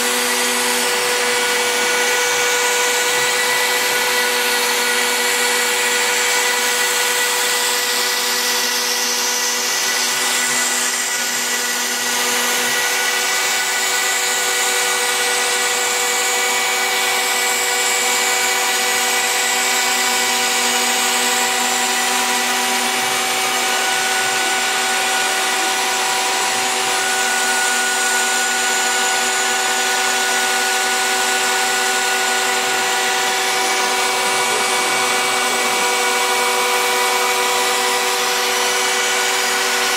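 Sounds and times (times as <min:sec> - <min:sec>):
router whining while milling wood: 0:00.0 - 0:39.9.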